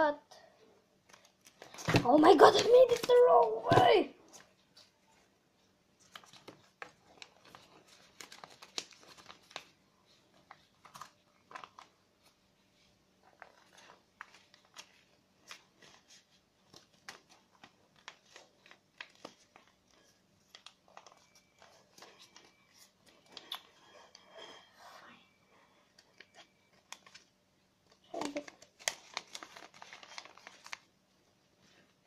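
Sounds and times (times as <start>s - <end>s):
paper crinkling and rustling: 1.0s - 5.3s, 5.9s - 24.7s, 25.5s - 32.0s.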